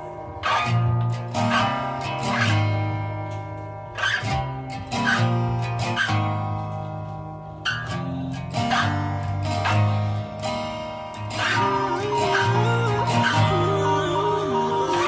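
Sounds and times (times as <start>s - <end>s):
guitar chords: 0.0s - 15.0s.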